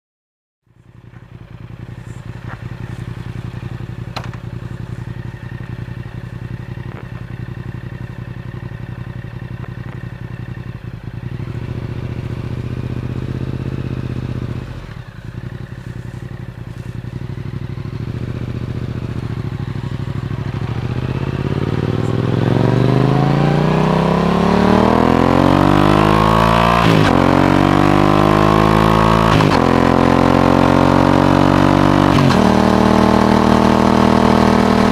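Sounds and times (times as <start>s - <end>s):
motorcycle engine accelerating: 0.7s - 34.9s.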